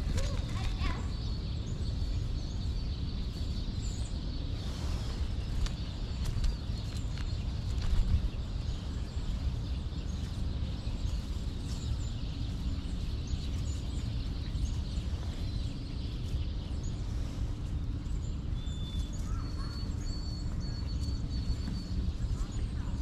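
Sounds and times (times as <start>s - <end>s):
low background rumble: 0.0s - 23.0s
songbirds chirping faintly: 0.0s - 23.0s.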